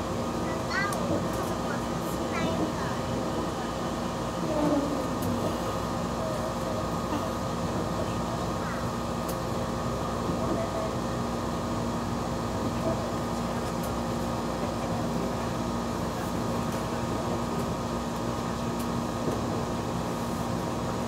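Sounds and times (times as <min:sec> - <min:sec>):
train machinery and ventilation hum: 0:00.0 - 0:21.0
train running rumble: 0:00.0 - 0:21.0.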